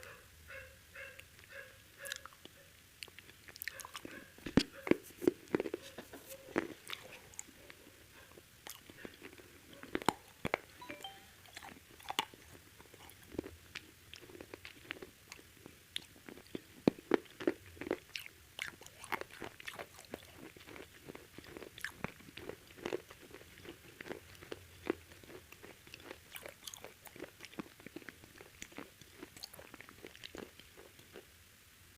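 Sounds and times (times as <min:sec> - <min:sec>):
crunchy chewing of fried chicken: 0:00.0 - 0:10.8, 0:11.5 - 0:31.6.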